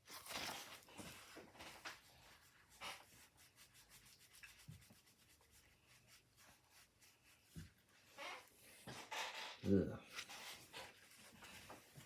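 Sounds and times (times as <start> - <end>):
wipe rubbing on plastic: 0.4 - 12.0.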